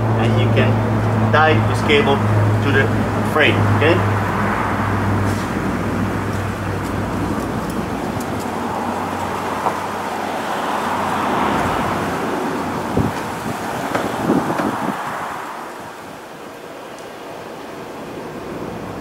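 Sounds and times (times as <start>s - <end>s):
low engine hum: 0.0s - 19.0s
road traffic rush: 0.0s - 19.0s.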